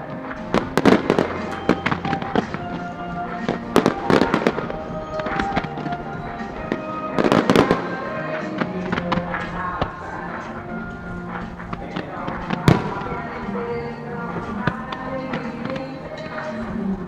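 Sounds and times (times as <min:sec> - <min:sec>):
firework shells bursting: 0:00.0 - 0:17.0
music playing: 0:00.0 - 0:17.0.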